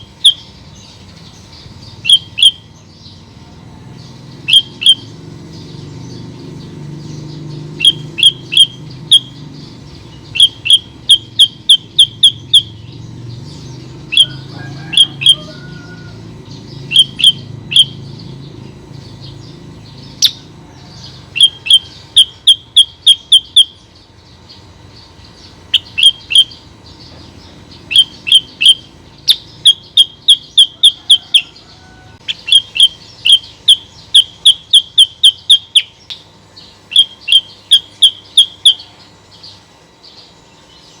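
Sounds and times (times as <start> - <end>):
bird chirping: 0.0 - 41.0.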